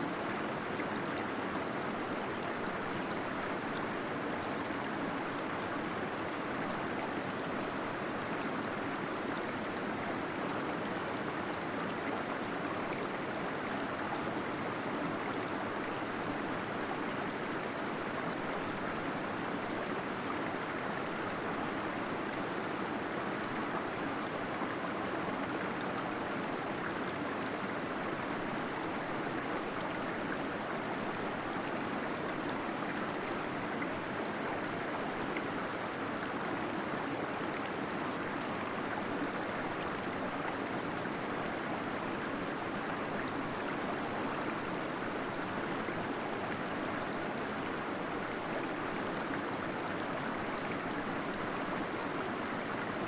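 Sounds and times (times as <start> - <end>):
small waterfall splashing and gurgling: 0.0 - 53.0.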